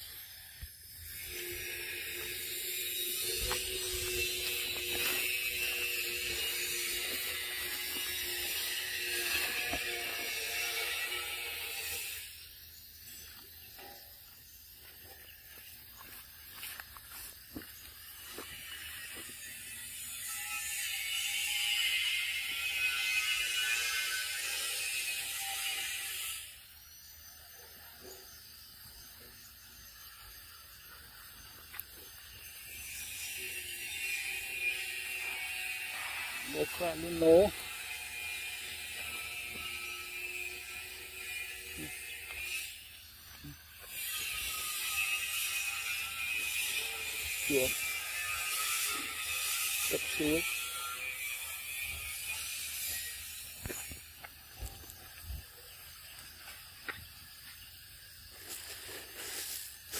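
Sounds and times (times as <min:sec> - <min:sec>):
high grating insect buzz: 0:00.0 - 0:59.9.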